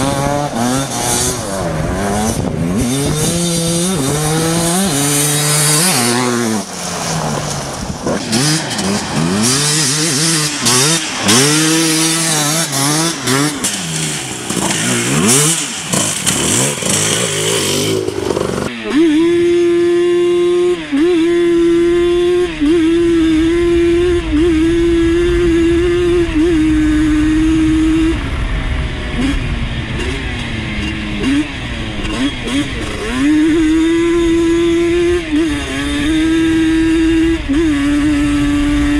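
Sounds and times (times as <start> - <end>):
atv engine revving: 0.0 - 38.9
quad engine high-pitched rev: 0.0 - 38.9.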